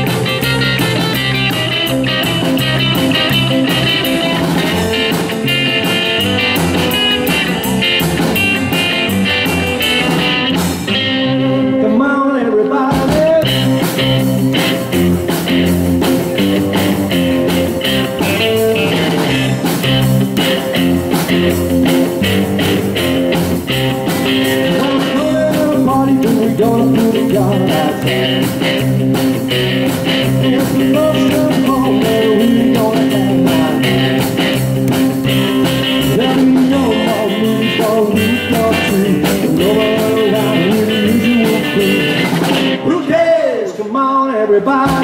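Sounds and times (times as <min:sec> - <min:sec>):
live rockabilly band: 0:00.0 - 0:45.0.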